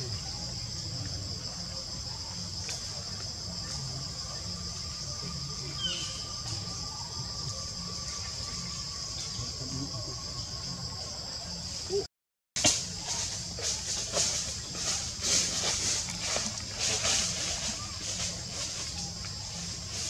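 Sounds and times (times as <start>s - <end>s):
high-pitched insect drone: 0.0s - 12.1s, 12.8s - 20.0s.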